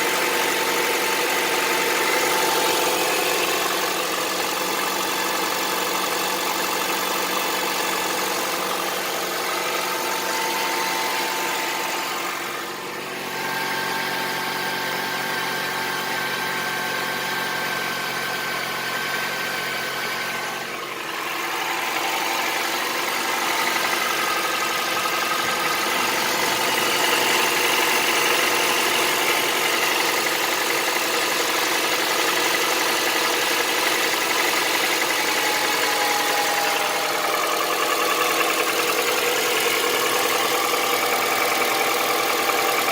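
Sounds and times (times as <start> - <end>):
car engine idling with knock: 0.0 - 42.9.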